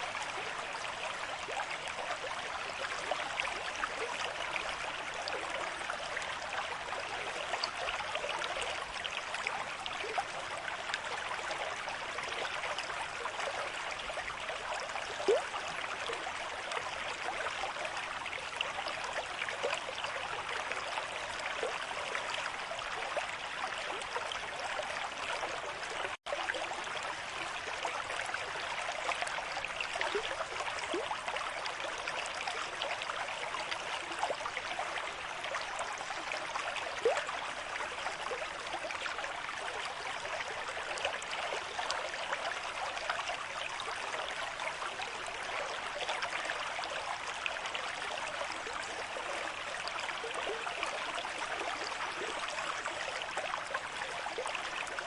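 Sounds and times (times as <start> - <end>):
stream water rushing and burbling: 0.0 - 55.0.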